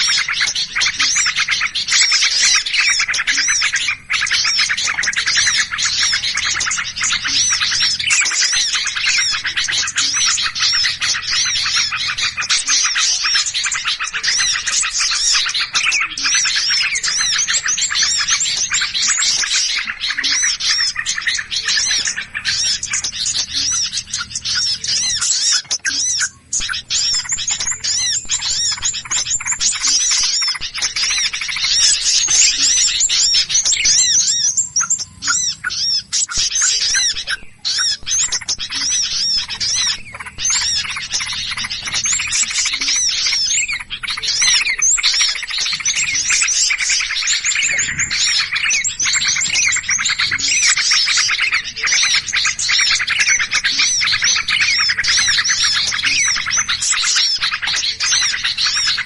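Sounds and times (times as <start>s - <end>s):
small birds alarm chorus: 0.0s - 59.0s.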